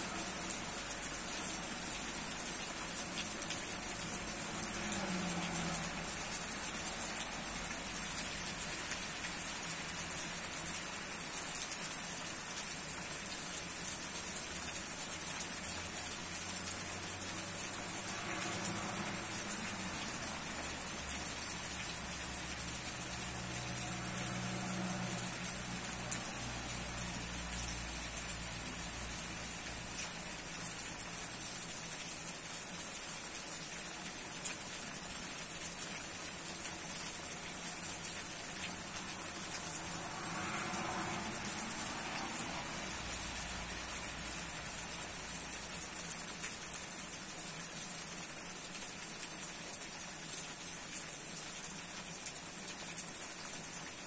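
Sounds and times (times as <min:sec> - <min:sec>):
hard rain on leaves: 0:00.0 - 0:54.0.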